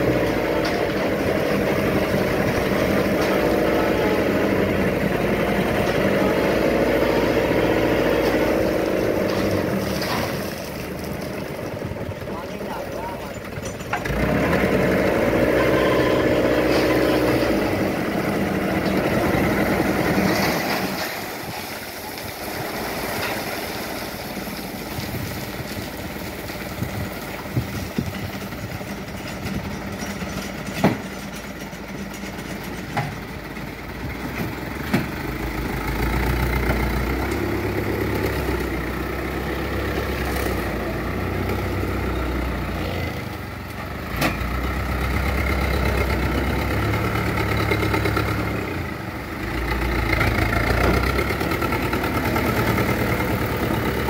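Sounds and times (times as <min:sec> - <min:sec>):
truck engine running hard: 0:00.0 - 0:54.0.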